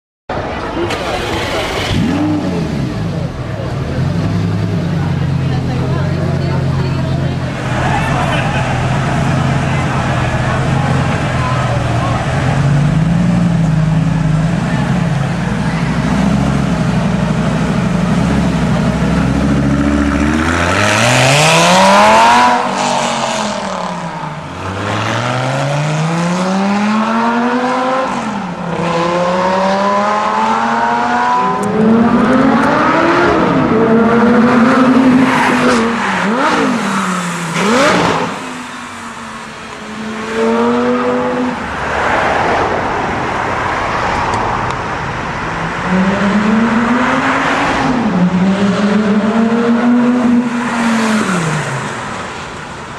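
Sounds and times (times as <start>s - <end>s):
car engine idling and revving: 0.3s - 52.9s.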